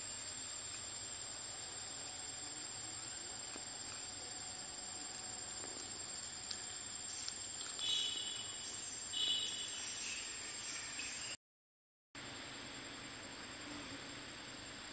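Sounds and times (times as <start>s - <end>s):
high insect whine: 0.0s - 11.4s, 12.2s - 14.9s
steady outdoor hiss: 0.0s - 11.4s, 12.2s - 14.9s.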